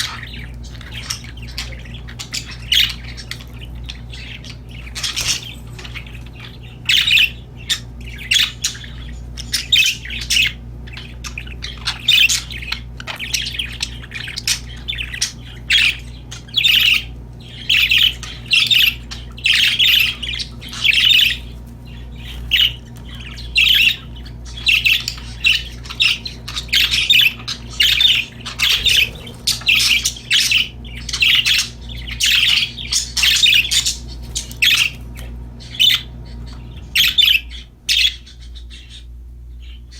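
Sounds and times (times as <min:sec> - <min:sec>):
budgerigars chirping: 0:00.0 - 0:39.9
steady low hum: 0:00.0 - 0:39.9.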